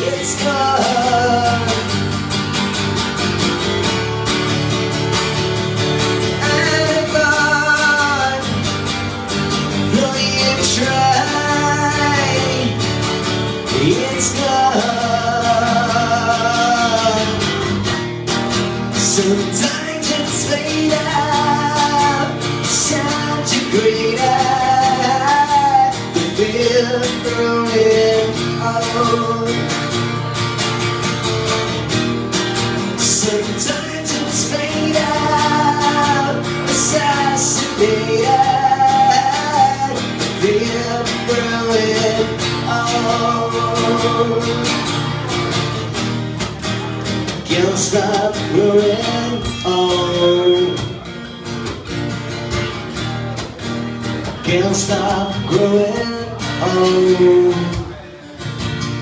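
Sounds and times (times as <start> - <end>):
man singing: 0.0 - 3.5, 4.4 - 30.4, 31.7 - 46.0, 46.7 - 51.4, 54.1 - 59.0
acoustic guitar strumming: 0.0 - 59.0.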